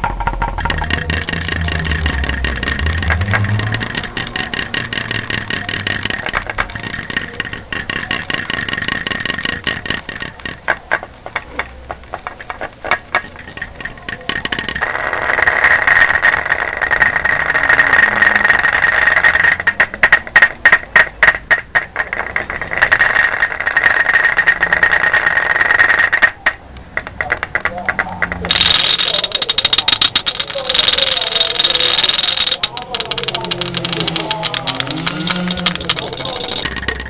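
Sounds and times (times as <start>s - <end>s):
rapid clattering: 0.0s - 37.0s.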